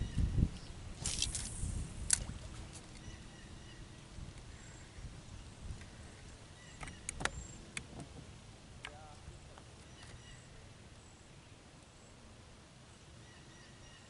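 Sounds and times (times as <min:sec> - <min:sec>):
wind and water rumble: 0:00.0 - 0:13.2.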